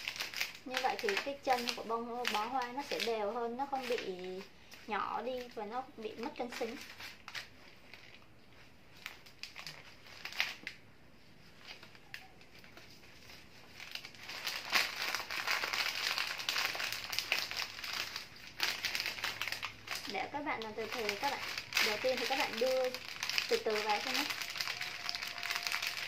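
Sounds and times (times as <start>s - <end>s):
wrapping paper crinkling: 0.0s - 26.0s.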